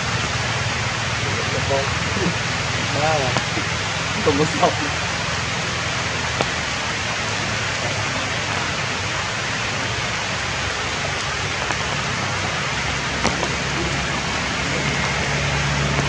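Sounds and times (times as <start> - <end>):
rain on foliage: 0.0 - 16.0.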